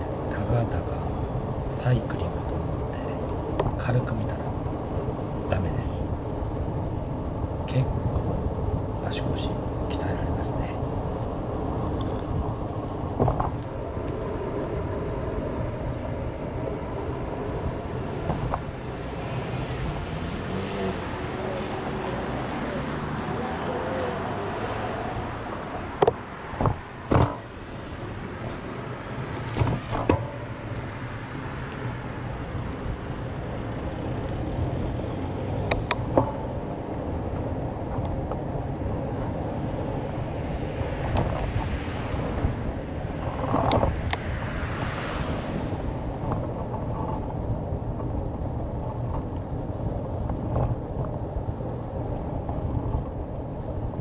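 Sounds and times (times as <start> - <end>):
bicycle rolling rumble: 0.0 - 54.0
passing road traffic: 0.0 - 54.0
wind on microphone: 2.5 - 54.0.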